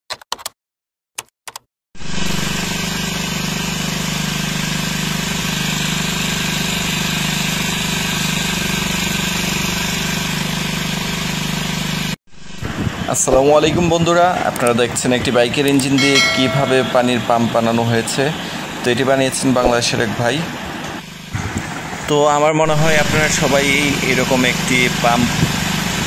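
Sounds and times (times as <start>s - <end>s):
engine running water pump: 2.0s - 15.7s, 18.1s - 26.0s.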